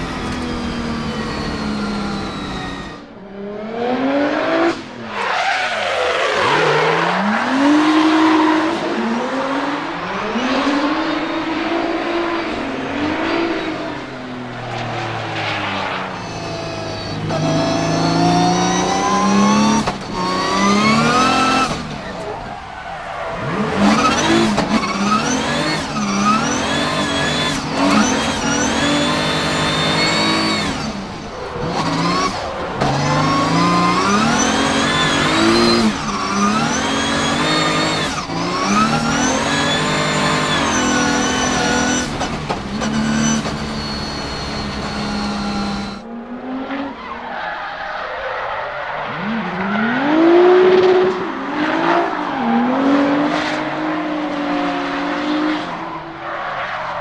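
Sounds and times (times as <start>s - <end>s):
car engine revving: 0.0s - 47.2s.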